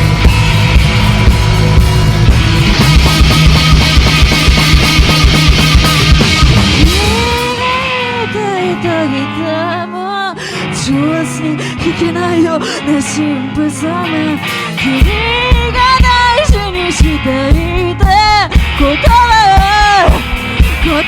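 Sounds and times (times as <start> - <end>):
drums: 0.0 - 9.6, 13.4 - 21.0
distorted electric guitars: 0.0 - 21.0
sliding lead guitar line: 0.0 - 21.0.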